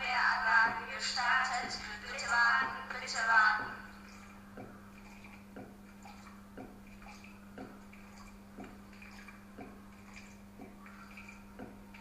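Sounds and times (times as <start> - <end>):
faint regular ticking: 0.0 - 12.0
steady low hum: 0.0 - 12.0.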